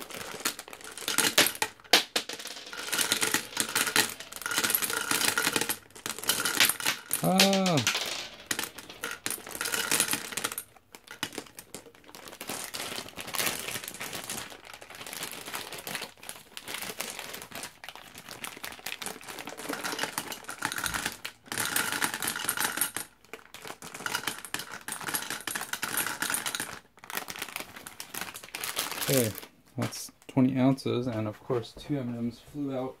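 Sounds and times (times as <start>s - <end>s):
candies rattling against glass: 0.0s - 29.6s.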